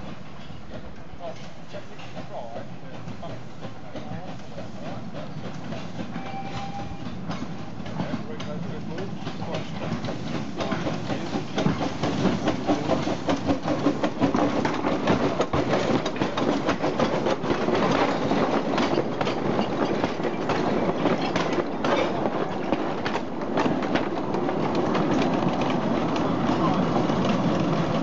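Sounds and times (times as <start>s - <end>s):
train wagons rattling: 0.0s - 28.0s
train wheels clattering over rail joints: 0.0s - 28.0s.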